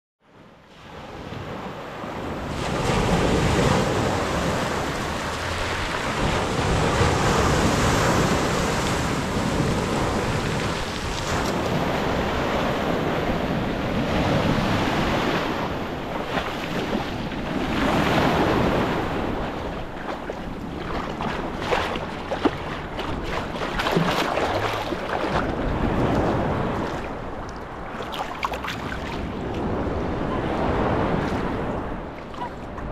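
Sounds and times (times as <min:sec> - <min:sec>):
sea waves breaking: 0:00.7 - 0:32.9.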